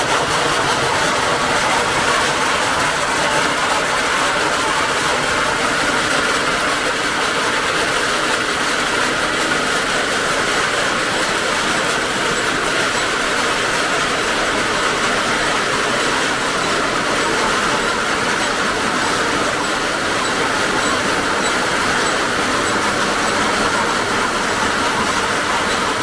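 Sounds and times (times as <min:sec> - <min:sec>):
heavy machine running: 0:00.0 - 0:26.0.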